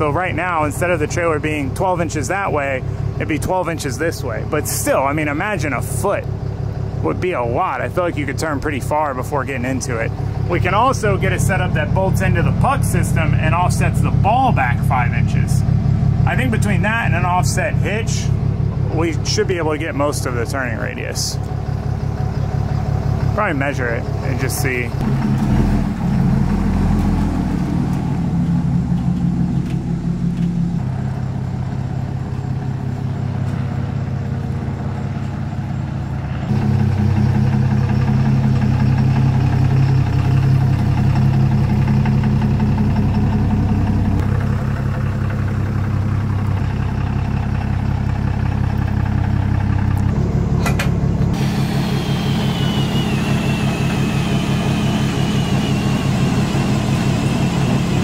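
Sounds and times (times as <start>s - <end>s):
pickup truck engine running: 0.0s - 58.0s.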